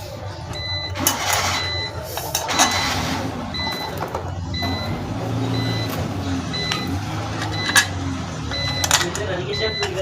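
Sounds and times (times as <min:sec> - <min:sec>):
reversing alarm beeps: 0:00.5 - 0:10.0.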